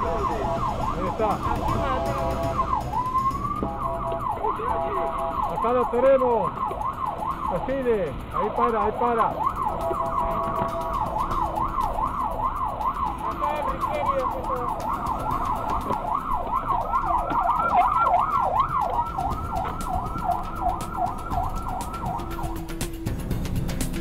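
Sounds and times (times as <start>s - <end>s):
police siren yelping: 0.0s - 23.4s
low vehicle rumble: 0.0s - 24.0s.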